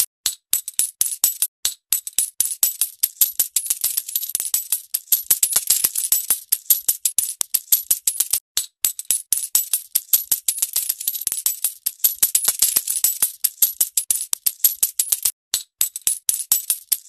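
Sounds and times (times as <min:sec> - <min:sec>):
metal coins falling and clinking: 0:00.0 - 0:17.0.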